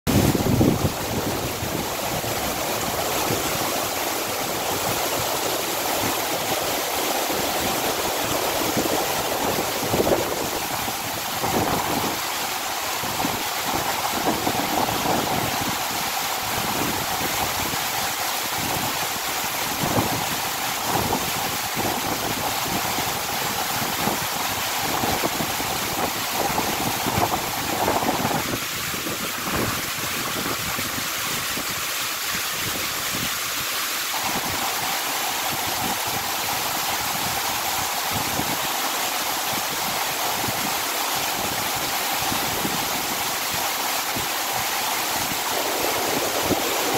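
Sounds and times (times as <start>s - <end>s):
heavy rain on paving and plants: 0.1s - 46.9s.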